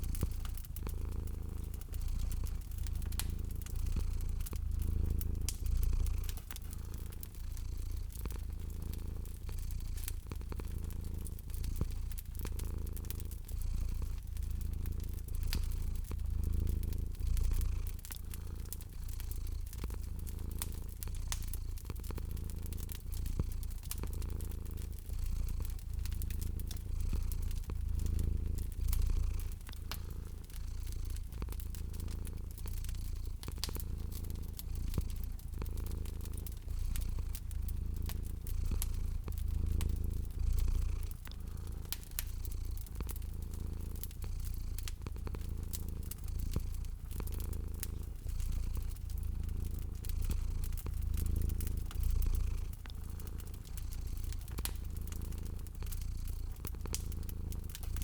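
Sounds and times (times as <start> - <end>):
cat purring: 0.0 - 58.0
wood fire crackling: 0.0 - 58.0.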